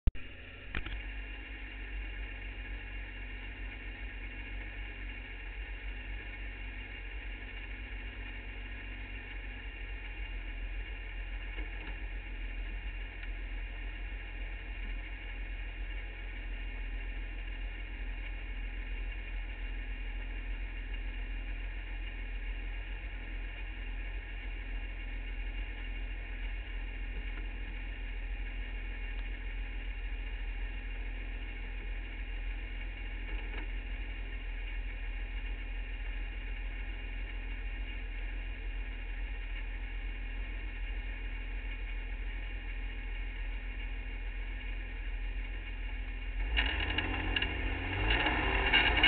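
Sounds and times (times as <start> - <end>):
race car engine idling: 0.2 - 49.0.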